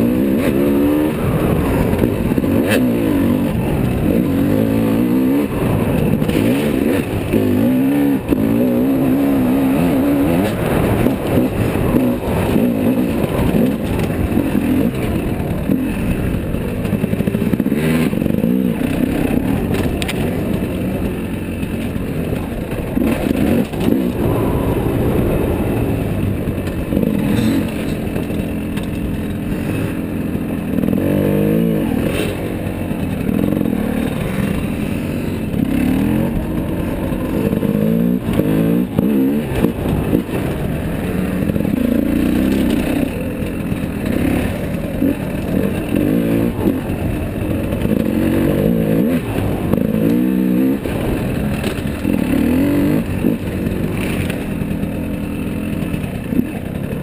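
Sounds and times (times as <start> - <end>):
dirt bike engine revving: 0.0 - 57.0
knocks and clatter over rough ground: 0.0 - 57.0.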